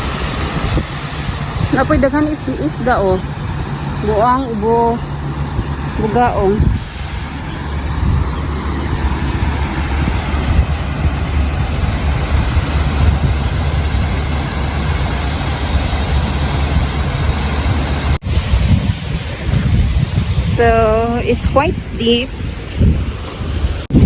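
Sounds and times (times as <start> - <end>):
sea water washing on rocks: 0.0 - 23.9
wind buffeting microphone: 0.0 - 24.0.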